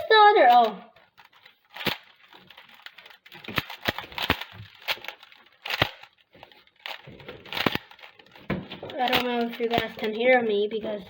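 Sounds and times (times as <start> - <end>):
puzzle cube clicking and scraping: 0.0 - 11.0.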